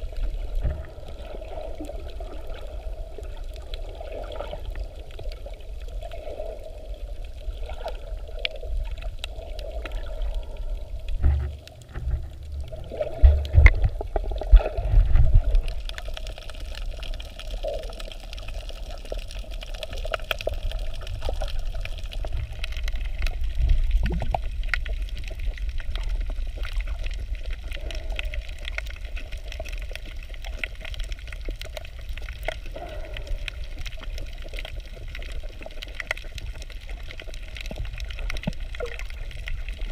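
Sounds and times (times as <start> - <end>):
low water surges: 0.0 - 39.9
underwater rumble of moving water: 0.0 - 39.9.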